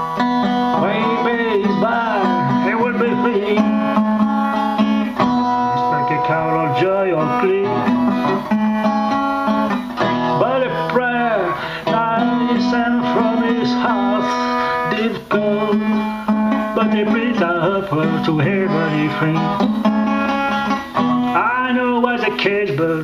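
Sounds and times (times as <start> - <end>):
blues guitar with bending notes: 0.0 - 23.0.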